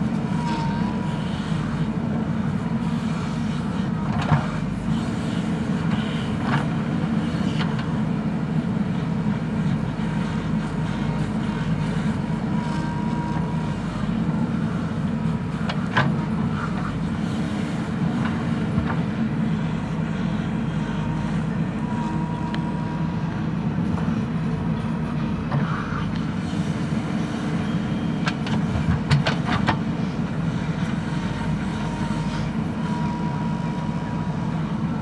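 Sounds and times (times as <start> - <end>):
diesel engine running under load: 0.0 - 35.0.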